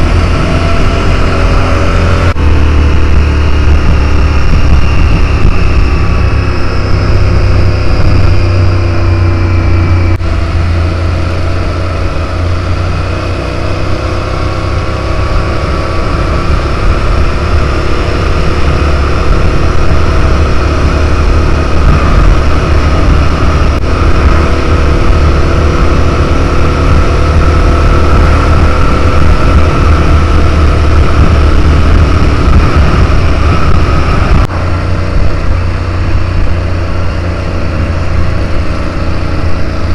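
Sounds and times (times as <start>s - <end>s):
motorcycle engine cruising: 0.0s - 39.9s
road noise: 0.0s - 39.9s
wind rumble on microphone: 0.0s - 39.9s.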